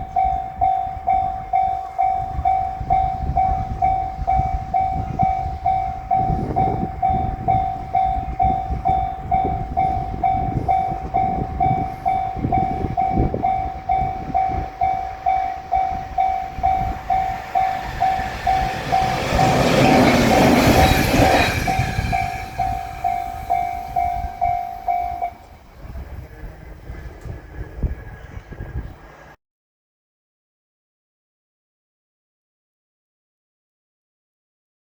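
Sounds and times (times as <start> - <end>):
railroad crossing bell ringing: 0.0 - 29.3
train wheels on rails: 0.0 - 29.4.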